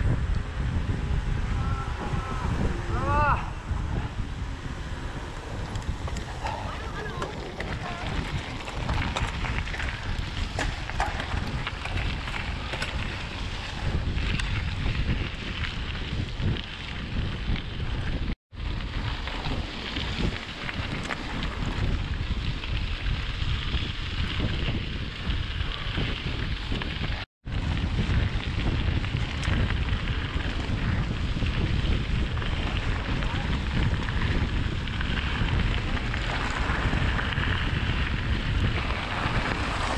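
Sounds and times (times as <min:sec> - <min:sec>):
wind buffeting microphone: 0:00.0 - 0:39.9
tyres rolling on gravel: 0:03.6 - 0:39.9
bike clicks and rattles: 0:05.2 - 0:39.9.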